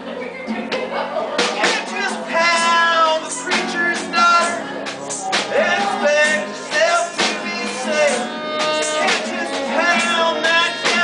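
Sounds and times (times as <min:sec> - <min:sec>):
drum kit: 0:00.5 - 0:11.0
strummed acoustic guitar: 0:00.5 - 0:11.0
man singing: 0:01.5 - 0:11.0.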